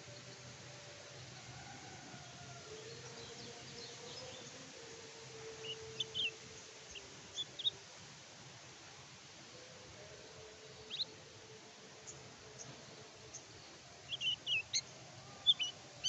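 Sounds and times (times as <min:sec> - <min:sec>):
songbird chirping: 0:00.0 - 0:08.0, 0:08.9 - 0:16.0
faint background hiss: 0:00.0 - 0:16.0.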